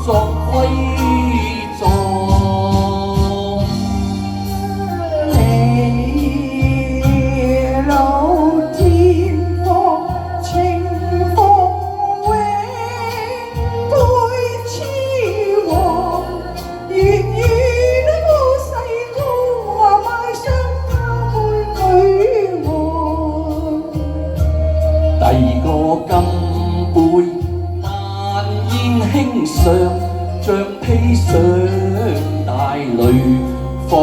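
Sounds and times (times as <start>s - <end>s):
instrumental accompaniment: 0.0s - 34.0s
woman singing with vibrato: 0.0s - 34.0s.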